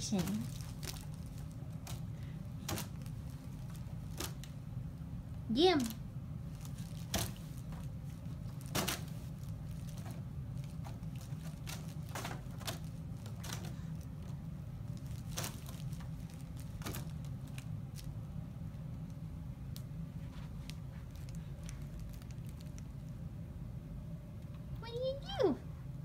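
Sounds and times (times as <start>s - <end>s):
crinkling rustles: 0.0s - 4.6s, 5.8s - 23.3s
steady low hum: 0.0s - 26.0s.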